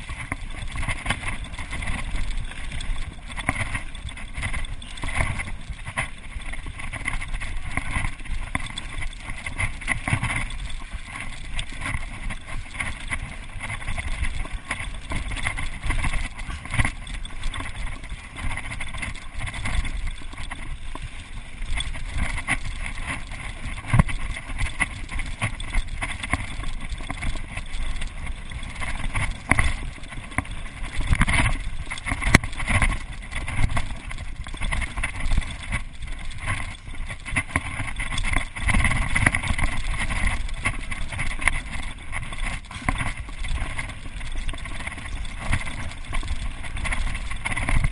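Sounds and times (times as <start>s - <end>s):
bike knocks and rattles: 0.0s - 47.9s.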